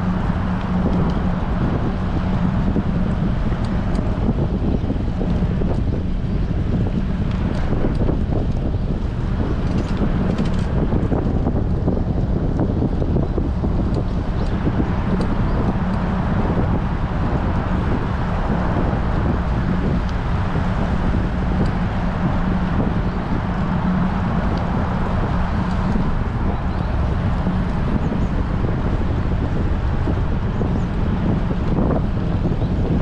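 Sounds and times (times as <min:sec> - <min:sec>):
constant low hum: 0:00.0 - 0:33.0
wind buffeting microphone: 0:00.0 - 0:33.0.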